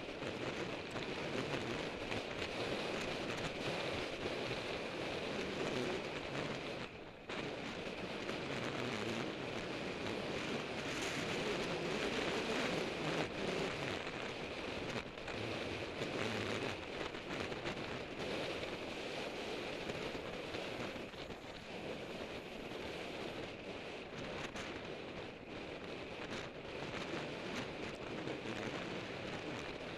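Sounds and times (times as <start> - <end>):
wind and road noise: 0.0 - 29.9.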